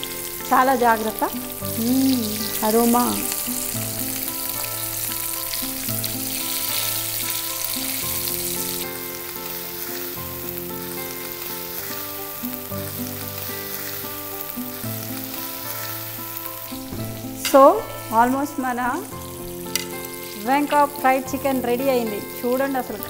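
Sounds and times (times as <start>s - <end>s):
chicken sizzling in hot oil: 0.0s - 23.0s
soft background music: 0.0s - 23.0s
spatula turning food in pan: 0.0s - 23.0s.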